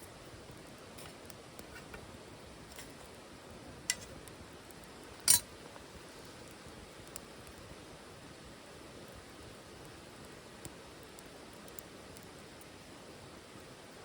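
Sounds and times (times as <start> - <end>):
fire hissing: 0.0 - 14.0
wood fire crackling and popping: 0.0 - 14.0.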